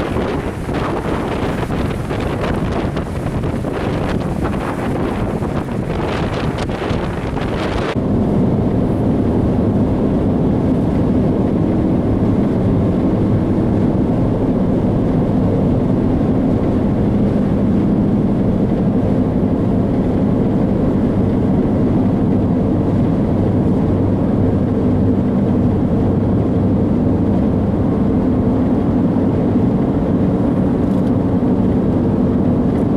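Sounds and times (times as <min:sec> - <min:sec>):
car road and engine rumble: 0:00.0 - 0:32.9.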